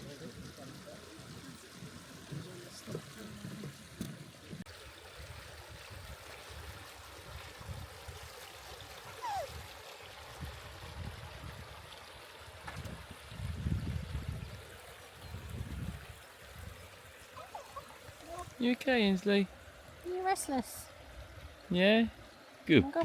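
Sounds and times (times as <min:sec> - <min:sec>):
stream water running: 0:00.0 - 0:23.0.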